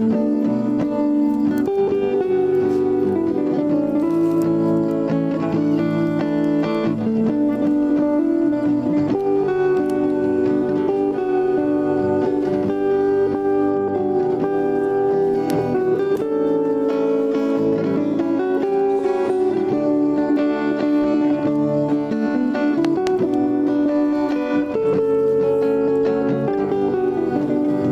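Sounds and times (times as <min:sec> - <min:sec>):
plucked guitar melody: 0:00.0 - 0:27.9.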